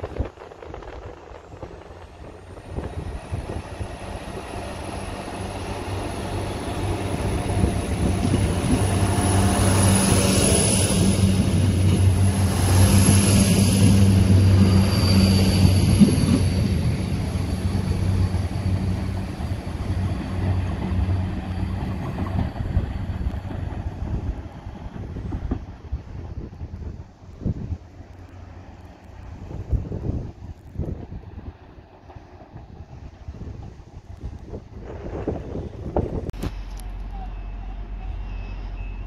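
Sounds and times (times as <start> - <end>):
diesel train pulling away: 0.0 - 39.0.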